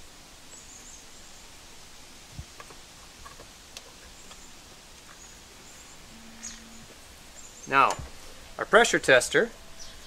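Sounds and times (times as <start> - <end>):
steady faint hiss: 0.0 - 10.0.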